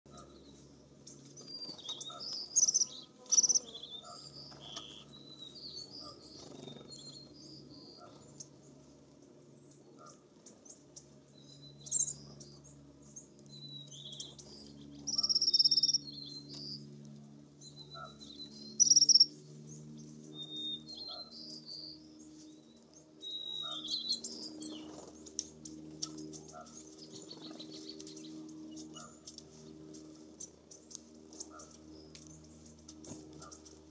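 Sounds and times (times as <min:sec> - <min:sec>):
birds twittering: 0:00.1 - 0:33.9
faint low hum: 0:00.1 - 0:33.9.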